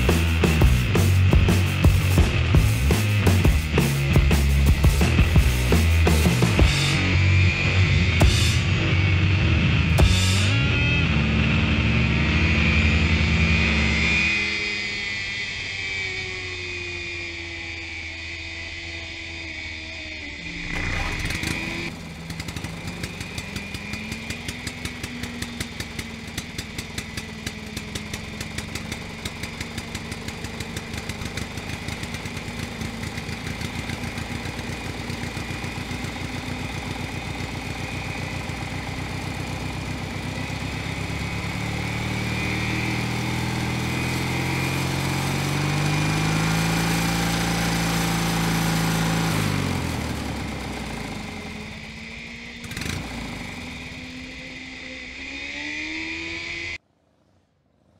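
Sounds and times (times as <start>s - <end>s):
motorcycle engine on part throttle: 0.0s - 57.9s.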